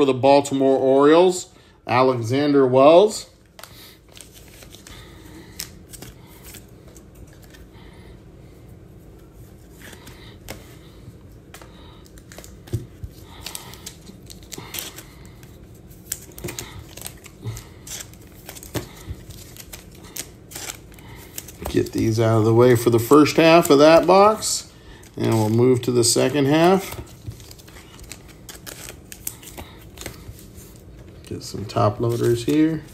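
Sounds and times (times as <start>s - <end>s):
plastic sleeves crinkling: 3.4s - 7.7s, 9.0s - 32.9s.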